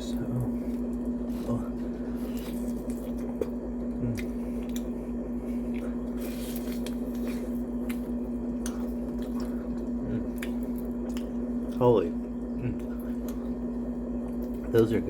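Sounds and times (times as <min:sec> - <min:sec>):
low hum: 0:00.0 - 0:15.0
wet chewing: 0:00.5 - 0:15.0.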